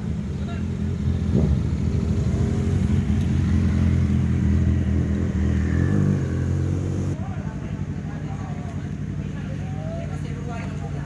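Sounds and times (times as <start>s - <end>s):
motorcycle engines low revs: 0.0s - 11.0s.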